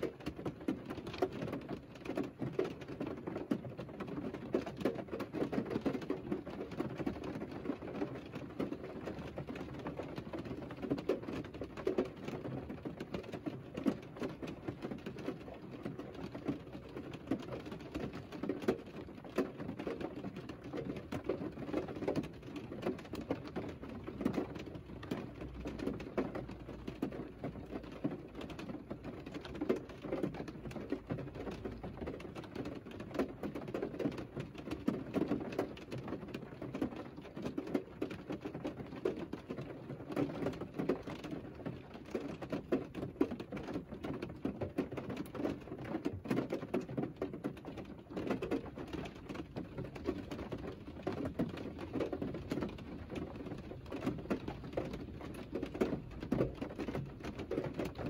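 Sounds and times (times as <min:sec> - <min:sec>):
rain on car roof from inside: 0:00.0 - 0:58.0.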